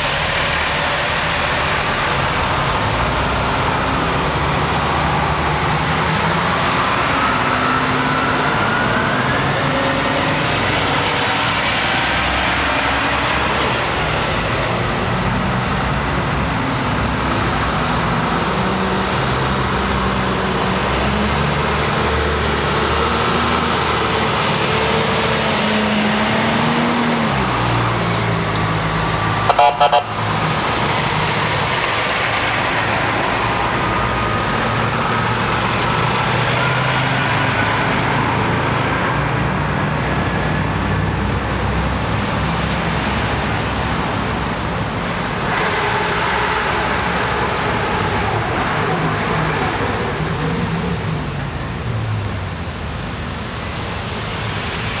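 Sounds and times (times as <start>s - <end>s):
emergency vehicle engines passing: 0.0s - 55.0s.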